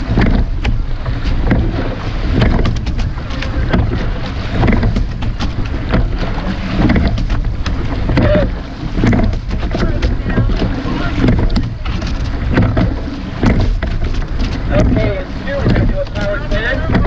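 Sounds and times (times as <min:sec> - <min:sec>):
oarlocks and seats knocking: 0:00.0 - 0:17.0
water rushing along hull: 0:00.0 - 0:17.0
wind rumble on microphone: 0:00.0 - 0:17.0.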